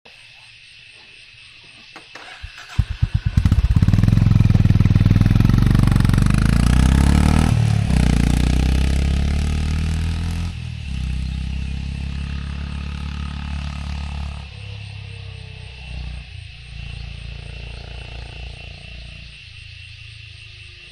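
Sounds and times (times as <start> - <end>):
motorcycle engine starting and idling: 1.9 - 18.8.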